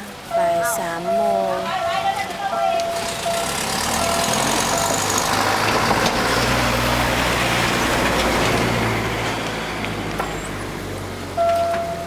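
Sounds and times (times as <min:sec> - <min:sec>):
traffic noise: 0:00.0 - 0:12.0
vehicle engine running: 0:01.2 - 0:12.0.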